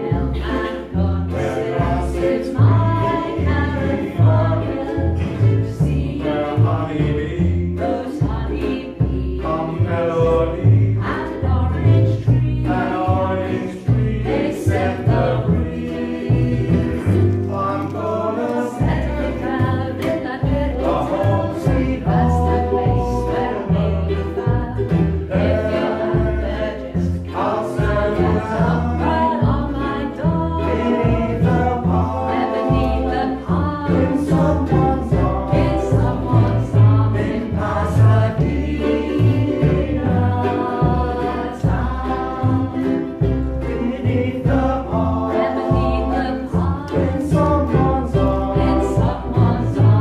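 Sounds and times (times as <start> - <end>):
people singing together: 0.0 - 50.0
plucked double bass: 0.0 - 50.0
ukuleles strumming: 0.0 - 50.0.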